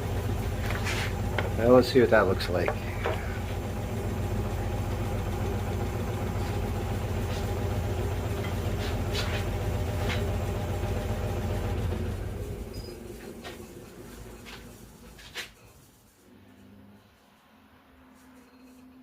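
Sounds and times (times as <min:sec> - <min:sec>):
wood lathe motor hum: 0:00.0 - 0:15.6.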